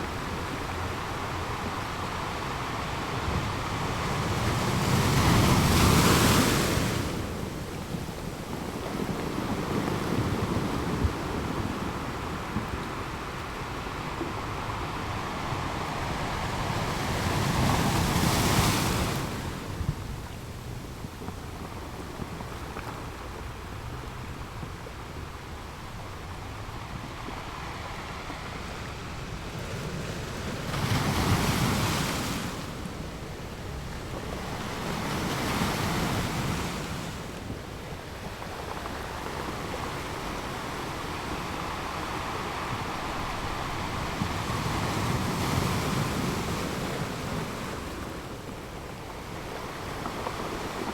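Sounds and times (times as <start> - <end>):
waves breaking on beach: 0.0 - 50.9
wind on microphone: 0.0 - 50.9.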